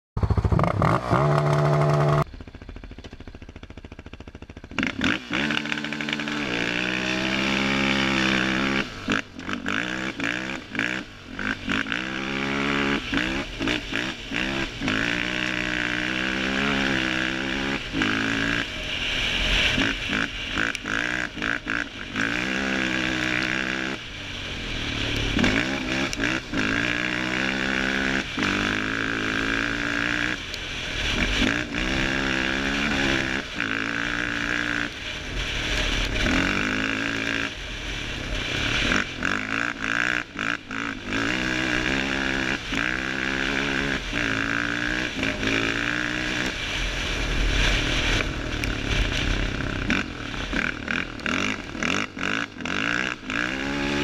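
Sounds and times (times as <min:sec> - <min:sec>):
quad engine revving: 0:00.2 - 0:02.4, 0:03.5 - 0:54.0.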